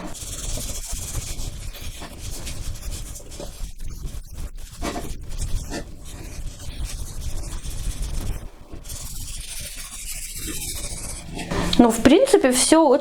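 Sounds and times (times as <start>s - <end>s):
wet cloth scrubbing a kettle: 0.0s - 12.7s.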